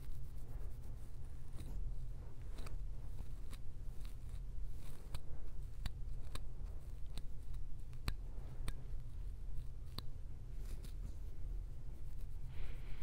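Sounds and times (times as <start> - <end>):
fingernails scratching scalp: 0.0 - 13.0.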